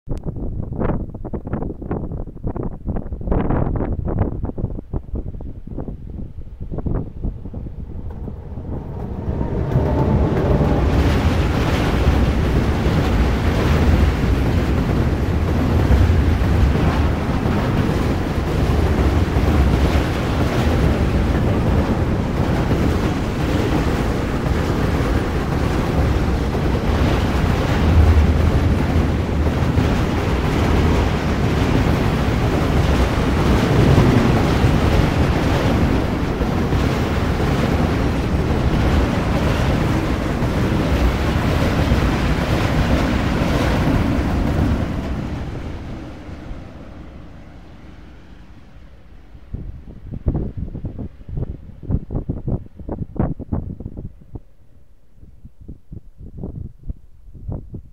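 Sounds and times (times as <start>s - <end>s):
wind buffeting microphone: 0.1s - 57.9s
deep rumble of train: 0.2s - 57.9s
freight train wheels on rails: 4.8s - 54.3s.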